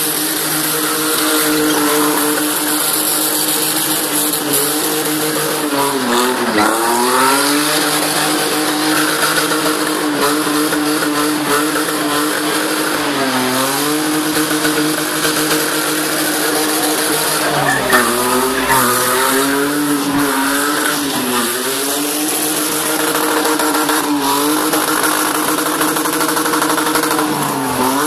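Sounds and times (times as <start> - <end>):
tyres spinning and hissing: 0.0 - 27.6
car engine revving high: 0.0 - 28.0.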